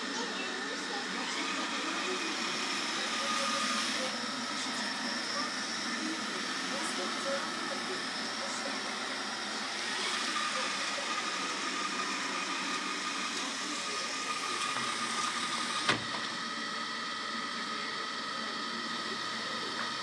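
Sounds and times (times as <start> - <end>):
robot vacuum cleaner running: 0.0 - 20.0.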